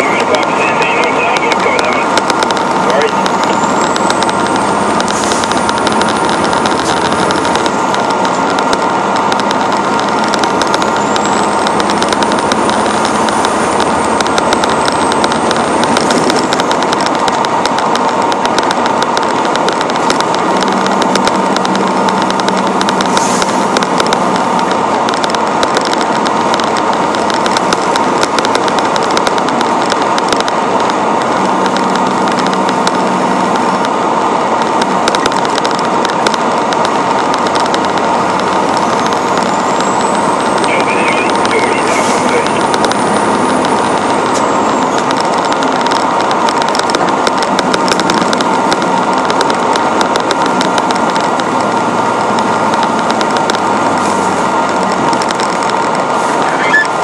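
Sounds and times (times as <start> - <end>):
truck engine and wind noise: 0.0 - 57.0.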